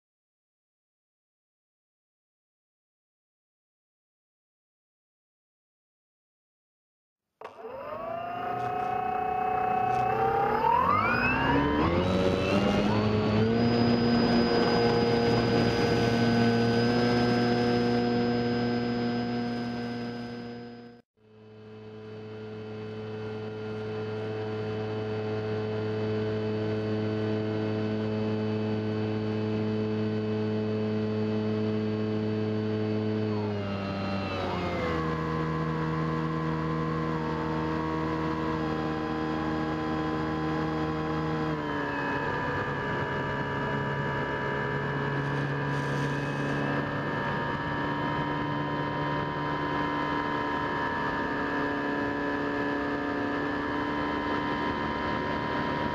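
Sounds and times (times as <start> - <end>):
electric model plane motor whine: 7.4 - 55.9.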